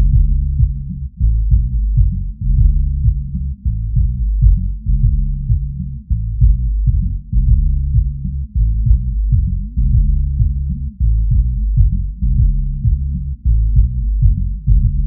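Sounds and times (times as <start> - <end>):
deep bass notes: 0.0 - 15.0
kick drum pulse: 0.0 - 15.0.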